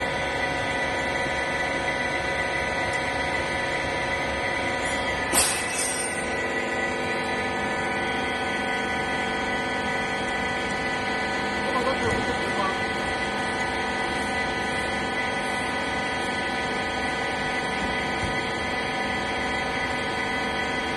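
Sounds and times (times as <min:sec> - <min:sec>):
baling machine whining: 0:00.0 - 0:20.9.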